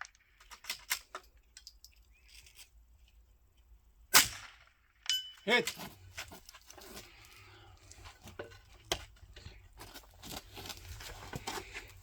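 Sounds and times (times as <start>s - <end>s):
clicks and knocks from handling rifle: 0.0s - 3.7s, 5.6s - 12.0s.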